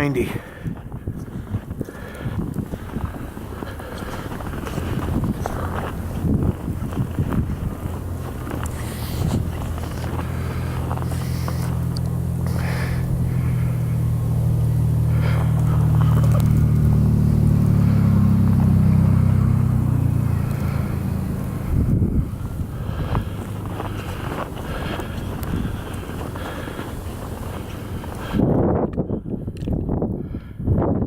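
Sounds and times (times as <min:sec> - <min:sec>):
wind on microphone: 0:00.0 - 0:31.0
heavy vehicle engine passing: 0:01.5 - 0:28.5.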